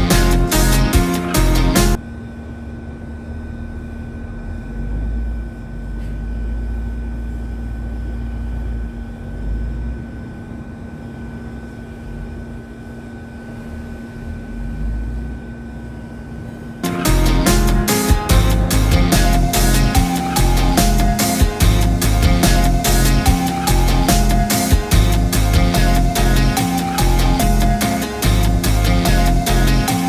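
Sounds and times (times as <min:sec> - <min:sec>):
constant machine hum: 0:00.0 - 0:30.0
high machine whine: 0:00.0 - 0:30.0
machinery low rumble: 0:00.0 - 0:30.0.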